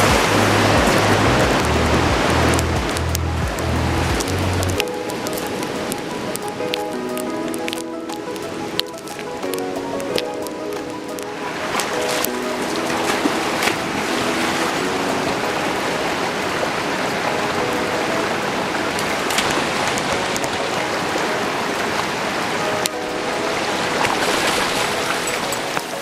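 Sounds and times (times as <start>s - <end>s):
background music with held notes: 0.0s - 26.0s.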